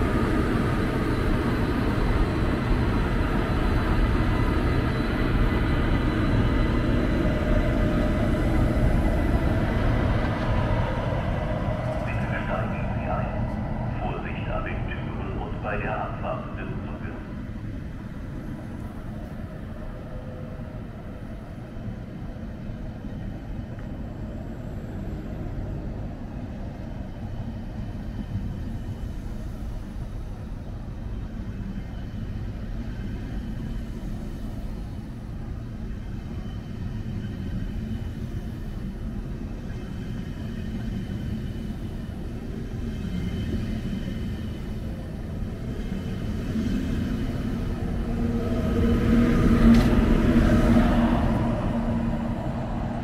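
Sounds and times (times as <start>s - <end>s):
faint high whine: 0.0s - 53.0s
train rumbling on tracks: 0.0s - 53.0s.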